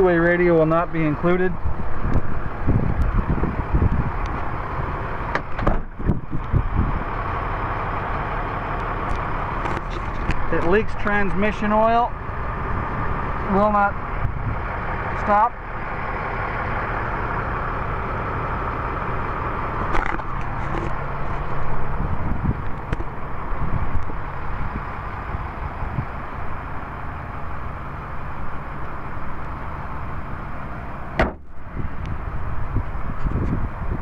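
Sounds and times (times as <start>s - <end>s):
diesel engine idling: 0.0s - 34.0s
engine knocks: 0.5s - 14.6s, 19.7s - 34.0s.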